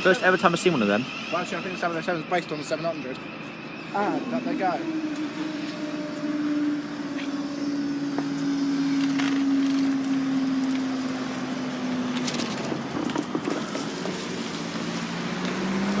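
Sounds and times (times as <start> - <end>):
electric train hum: 0.0 - 16.0.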